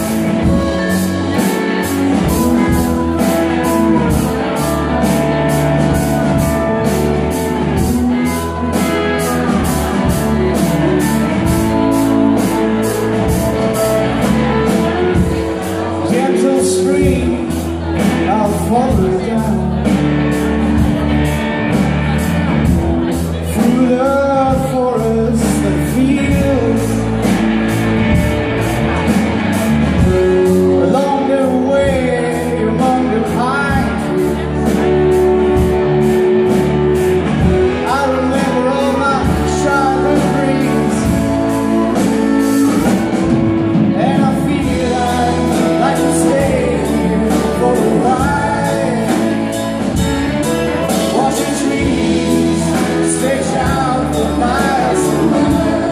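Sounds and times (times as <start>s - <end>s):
person singing: 0.0s - 28.2s, 30.0s - 55.9s
drum kit beat: 0.0s - 55.9s
electric guitars: 0.0s - 55.9s.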